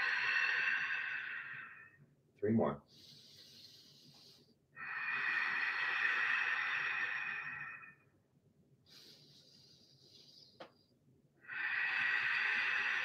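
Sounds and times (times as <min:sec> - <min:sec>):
person breathing deeply: 0:00.0 - 0:02.0, 0:02.9 - 0:08.1, 0:08.8 - 0:10.6, 0:11.4 - 0:13.0.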